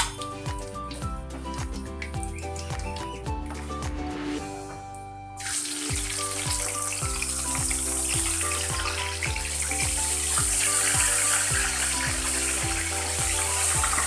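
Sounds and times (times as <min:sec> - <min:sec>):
fish sizzling in hot oil: 0:00.0 - 0:03.2, 0:05.4 - 0:14.0
background music: 0:00.0 - 0:14.0.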